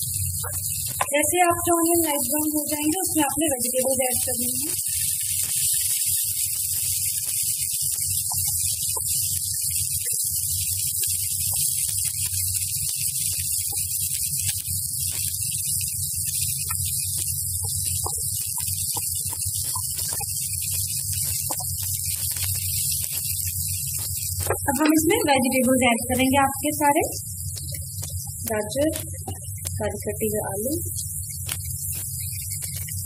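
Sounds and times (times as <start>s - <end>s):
onions frying in oil: 0.0s - 33.0s.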